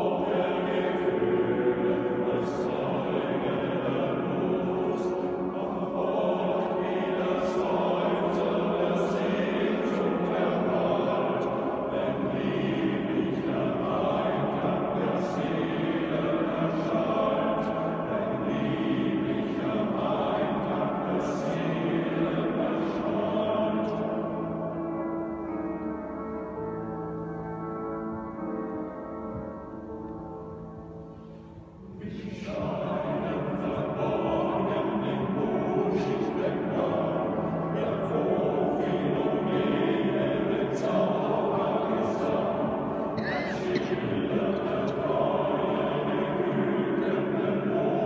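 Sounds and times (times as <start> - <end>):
men's choir singing in church: 0.0 - 48.0.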